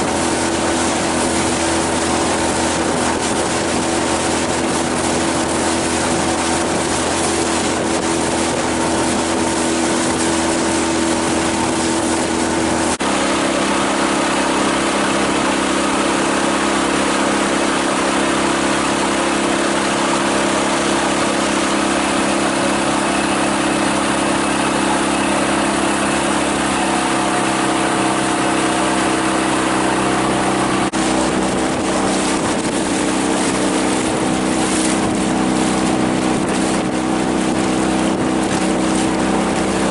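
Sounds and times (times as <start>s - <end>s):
outboard motor humming: 0.0s - 39.9s.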